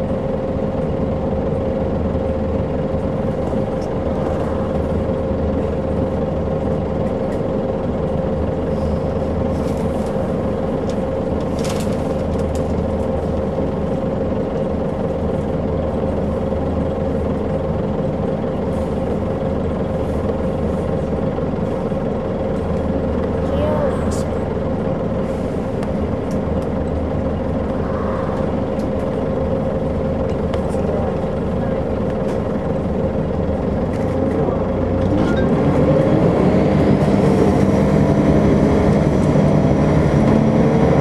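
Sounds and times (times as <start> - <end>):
bus diesel engine idling: 0.0 - 41.0.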